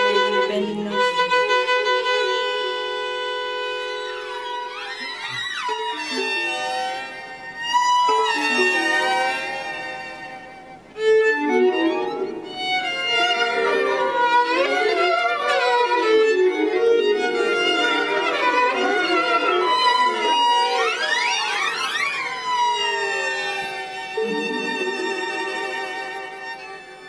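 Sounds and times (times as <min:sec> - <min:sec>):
solo violin playing: 0:00.0 - 0:27.0.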